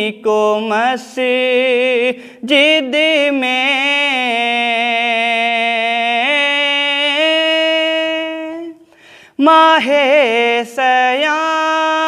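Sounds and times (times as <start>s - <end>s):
man singing lament: 0.0s - 12.0s.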